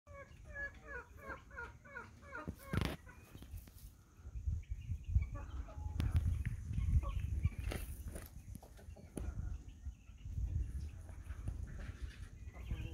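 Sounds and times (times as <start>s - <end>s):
chickens clucking: 0.1s - 12.9s.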